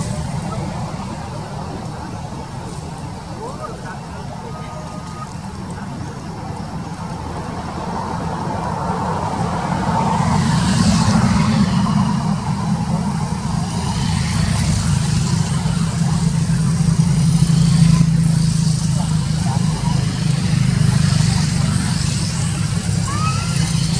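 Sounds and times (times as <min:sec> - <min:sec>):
vehicle engine humming: 0:00.0 - 0:23.9.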